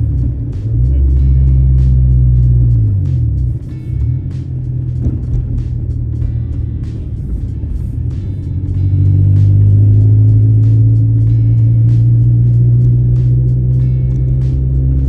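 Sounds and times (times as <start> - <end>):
car engine running: 0.0 - 15.0
music with steady beat: 0.0 - 15.0.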